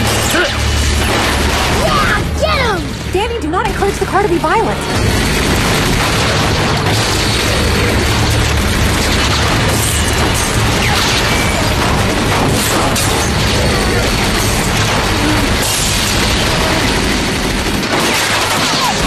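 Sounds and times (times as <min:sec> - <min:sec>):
rapid gunfire: 0:00.0 - 0:19.0.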